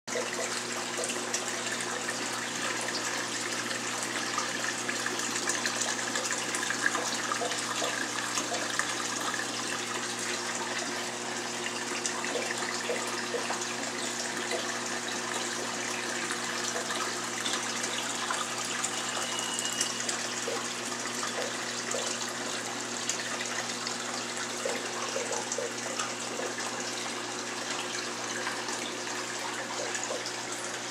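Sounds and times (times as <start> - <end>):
low pump hum: 0.1 - 30.9.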